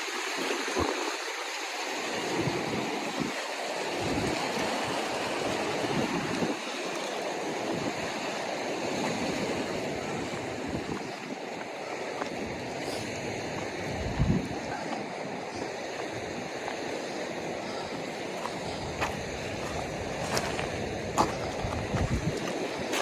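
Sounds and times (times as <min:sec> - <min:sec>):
ocean surf washing ashore: 0:00.0 - 0:23.0
wind gusting on microphone: 0:02.1 - 0:23.0.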